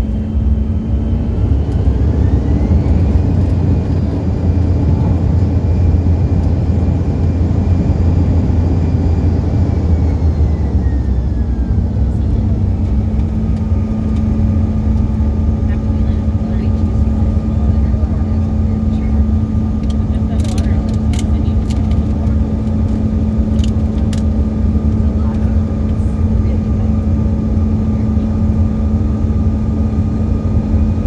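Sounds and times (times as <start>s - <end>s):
engine and airframe rumble: 0.0s - 31.0s
jet turbine whine: 0.0s - 31.0s.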